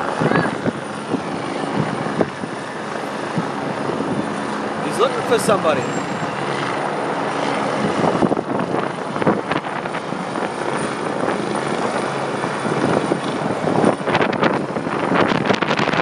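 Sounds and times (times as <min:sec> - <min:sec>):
helicopter rotor and engine: 0:00.0 - 0:16.0.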